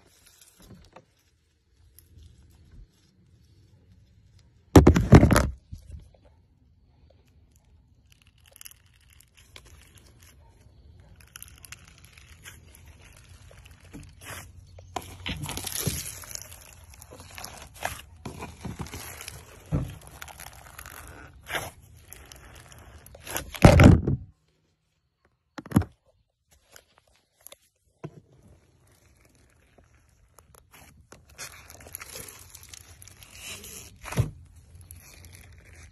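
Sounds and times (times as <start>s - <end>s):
slime crunching and crackling: 0.0s - 5.4s, 7.0s - 24.0s, 26.5s - 35.9s.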